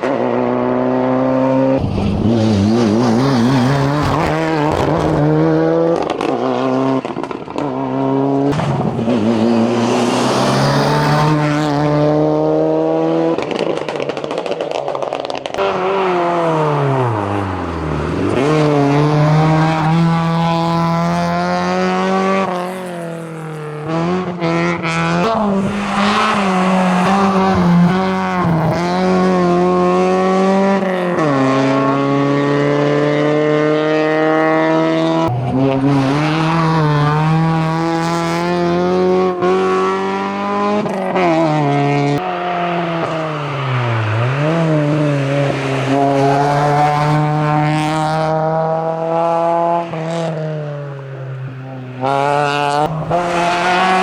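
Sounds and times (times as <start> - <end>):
racing car engines revving: 0.0 - 54.0.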